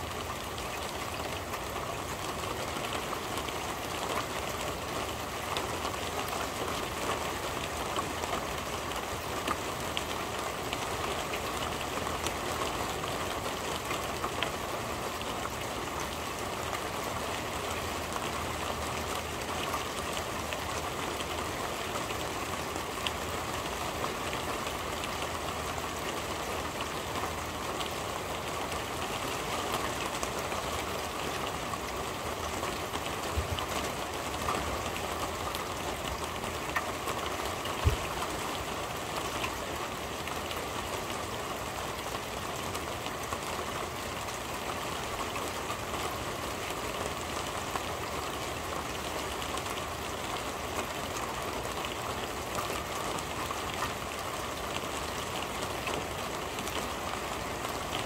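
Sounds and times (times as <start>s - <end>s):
rain on a metal roof: 0.0s - 58.0s.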